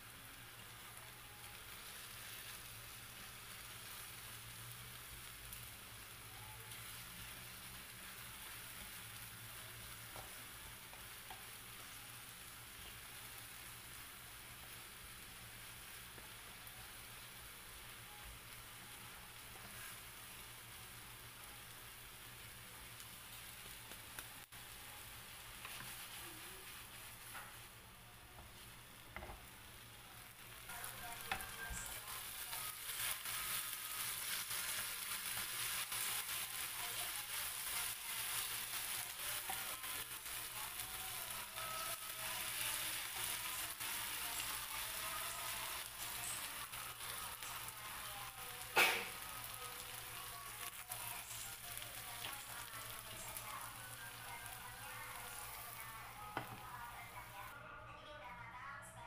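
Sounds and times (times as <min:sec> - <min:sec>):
chilli paste sizzling in oil: 0:00.0 - 0:57.5.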